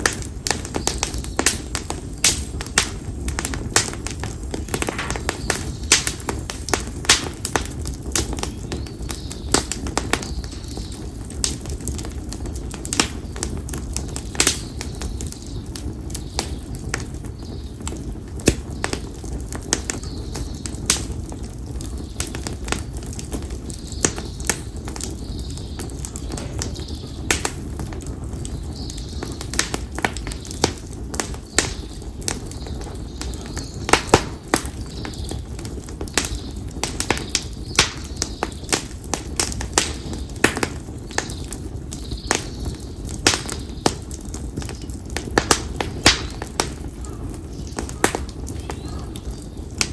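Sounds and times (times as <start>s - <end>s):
firewood crackling and popping: 0.0s - 49.9s
low rustle of flame: 0.0s - 49.9s.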